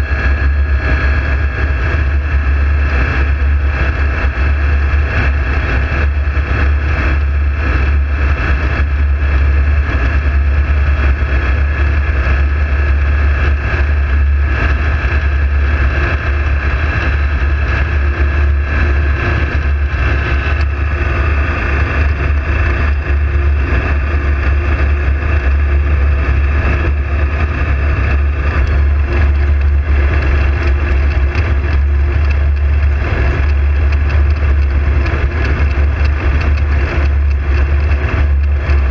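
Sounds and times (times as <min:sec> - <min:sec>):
aircraft engine and propeller droning: 0:00.0 - 0:38.9.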